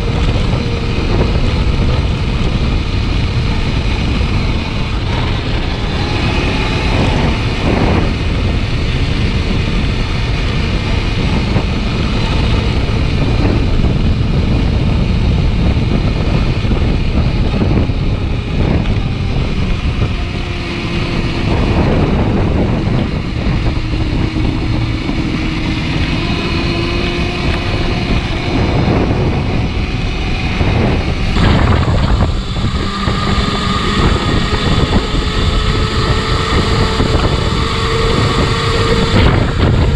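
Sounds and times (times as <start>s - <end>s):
faint drifting tone: 0.0s - 39.9s
motorcycle engine: 0.0s - 39.9s
wind rushing over microphone: 0.0s - 39.9s.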